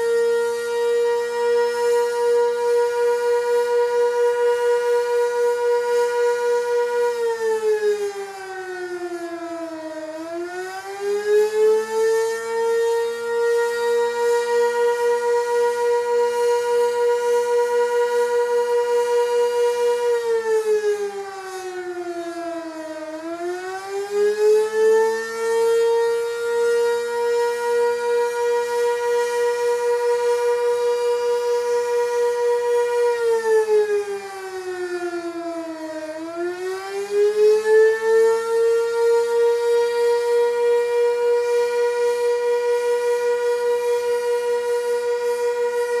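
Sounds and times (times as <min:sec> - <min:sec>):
warning siren wailing: 0:00.0 - 0:46.0.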